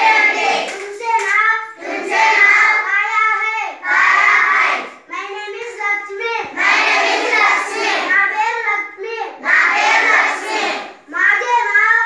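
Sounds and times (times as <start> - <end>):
children chanting together: 0.0 - 12.0.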